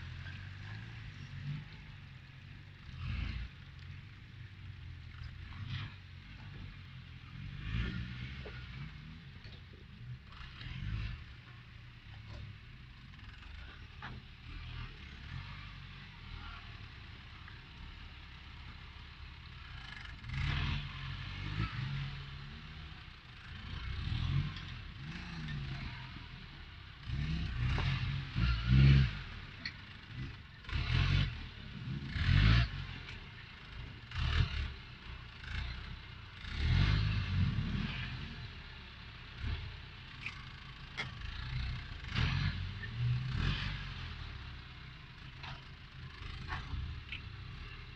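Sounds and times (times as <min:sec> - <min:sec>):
off-road vehicle engine revving: 0:00.0 - 0:47.9.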